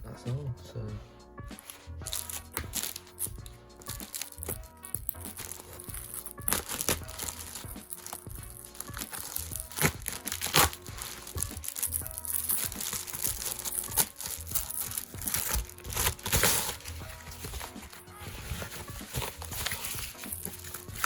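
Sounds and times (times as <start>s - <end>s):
faint background music: 0.0s - 21.0s
packaging wrappers crinkling: 1.6s - 21.0s.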